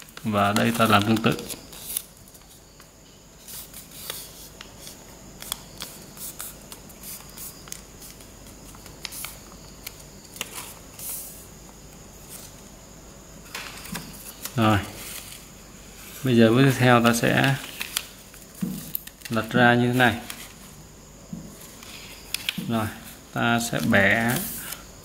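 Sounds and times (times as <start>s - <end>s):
paper rustling as folded: 0.0s - 2.6s, 3.4s - 11.4s, 13.5s - 20.8s, 21.6s - 24.9s.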